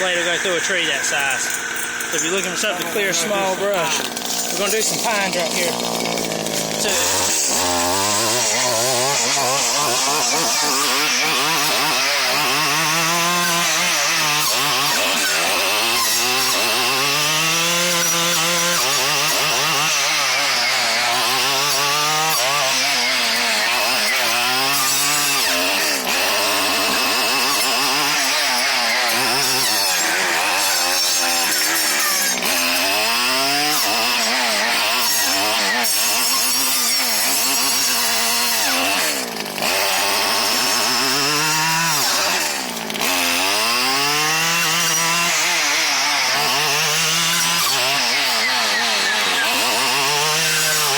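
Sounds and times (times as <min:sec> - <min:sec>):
brushcutter engine running hard: 0:00.0 - 0:50.9
saw blade cutting small trees: 0:00.0 - 0:50.9.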